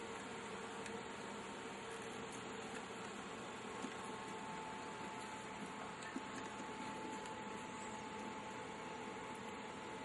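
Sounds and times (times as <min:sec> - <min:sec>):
faint hum tone: 0:00.0 - 0:10.0.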